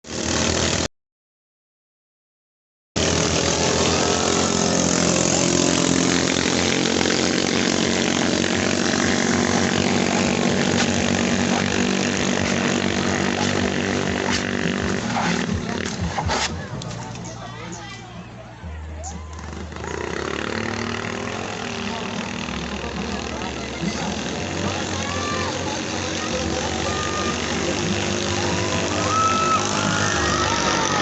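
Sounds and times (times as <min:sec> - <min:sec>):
racing boat engines droning: 0:03.0 - 0:31.0.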